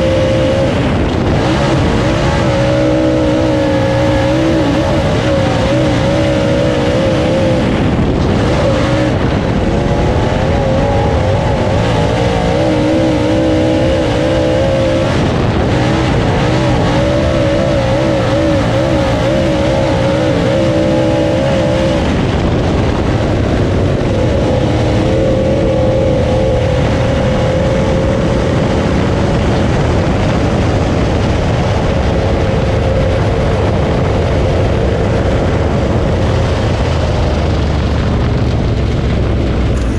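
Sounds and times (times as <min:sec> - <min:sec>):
race car engine revving: 0:00.0 - 0:39.9
wind and track noise: 0:00.0 - 0:39.9.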